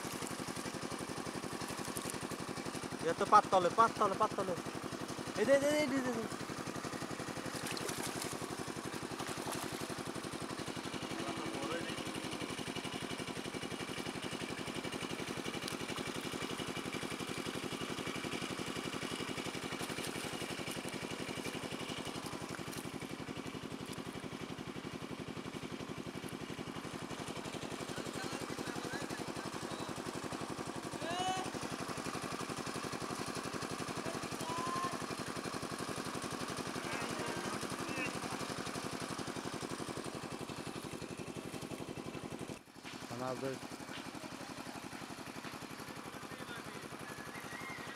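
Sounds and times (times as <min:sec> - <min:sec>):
small engine droning: 0:00.0 - 0:47.9.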